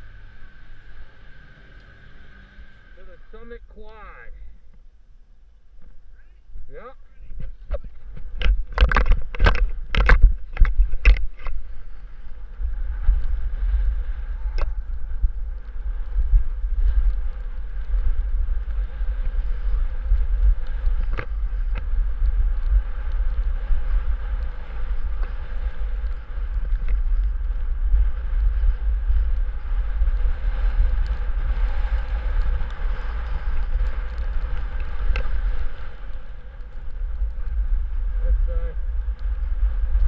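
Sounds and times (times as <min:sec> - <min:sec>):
faint steady hum: 0:00.0 - 0:40.0
wind buffeting microphone: 0:00.0 - 0:40.0.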